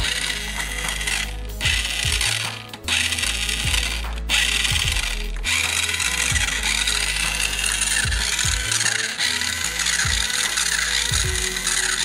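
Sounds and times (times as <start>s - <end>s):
toy car motor whirring: 0.0s - 12.0s.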